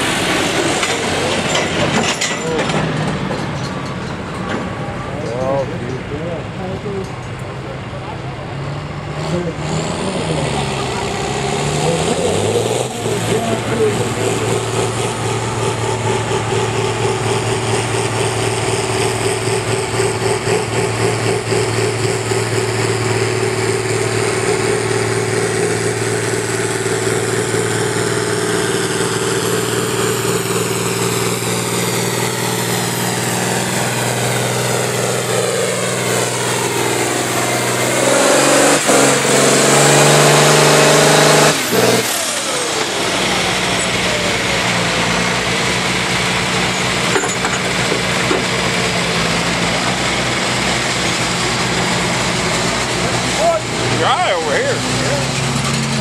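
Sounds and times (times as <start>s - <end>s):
tractor diesel engine running: 0.0s - 56.0s
tractor diesel engine under load: 0.0s - 56.0s.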